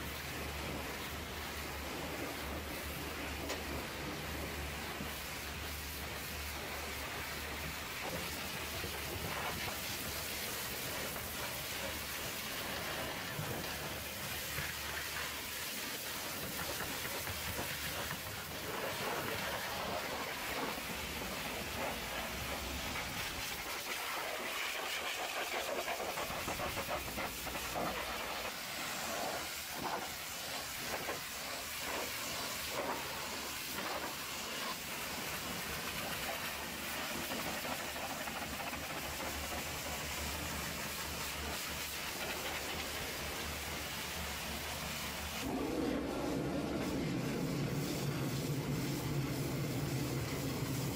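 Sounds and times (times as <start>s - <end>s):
pressure washer jet hissing on metal: 0.0s - 50.9s.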